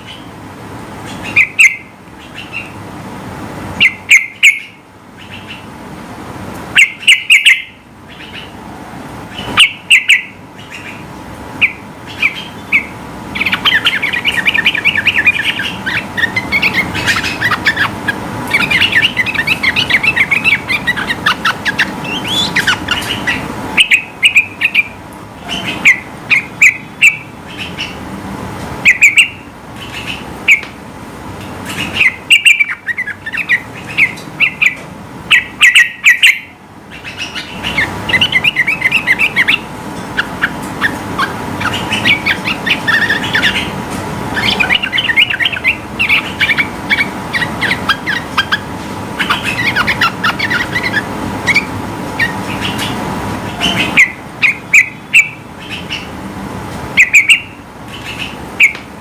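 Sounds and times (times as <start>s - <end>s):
bulbul singing: 0.0s - 2.9s, 3.8s - 5.8s, 6.7s - 8.6s, 9.3s - 28.0s, 28.8s - 30.8s, 31.4s - 56.2s, 57.0s - 58.9s.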